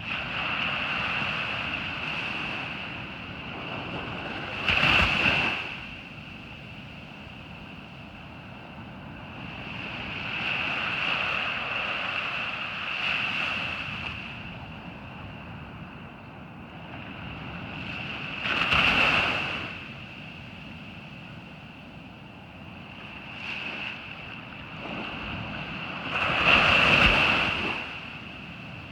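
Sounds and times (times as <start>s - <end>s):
ocean surf breaking on beach: 0.0s - 28.9s.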